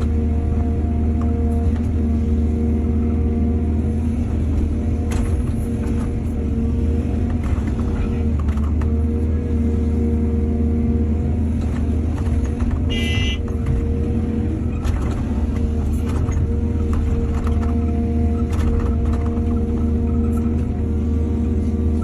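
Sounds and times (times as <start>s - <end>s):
diesel machinery engine running: 0.0s - 22.0s.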